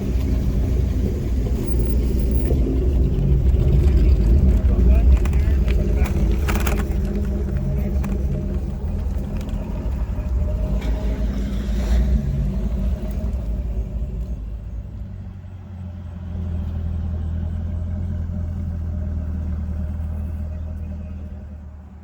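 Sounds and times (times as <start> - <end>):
car engines running: 0.0 - 22.0.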